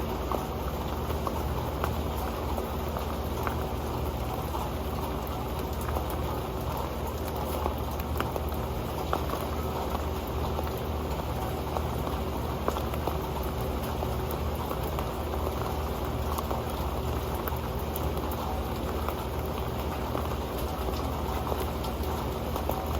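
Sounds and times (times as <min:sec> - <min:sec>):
rain on a pan: 0:00.0 - 0:22.9.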